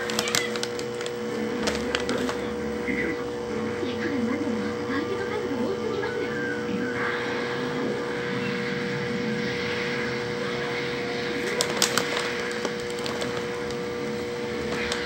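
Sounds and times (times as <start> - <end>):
aquarium pump humming: 0.0 - 15.0.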